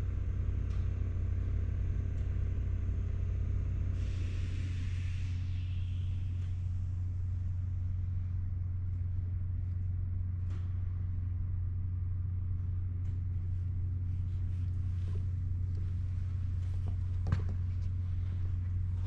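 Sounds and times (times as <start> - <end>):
low droning hum: 0.0 - 19.0.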